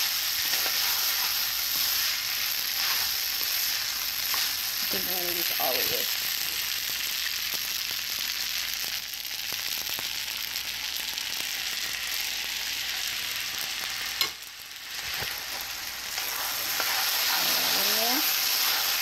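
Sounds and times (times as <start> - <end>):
rice sizzling in a wok: 0.0 - 19.0.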